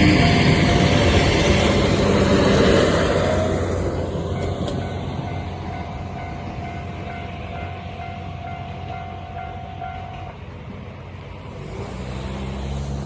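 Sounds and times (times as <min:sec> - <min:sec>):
low rumble of train: 0:00.0 - 0:13.0
road vehicle engine: 0:00.0 - 0:13.0.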